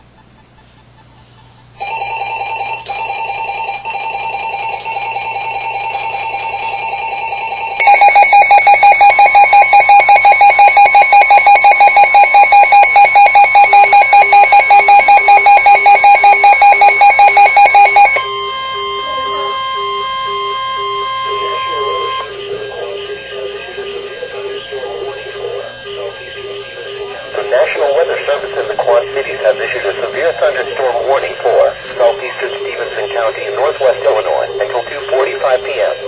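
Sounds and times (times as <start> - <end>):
steady electronic alert tone: 5.0 - 36.0.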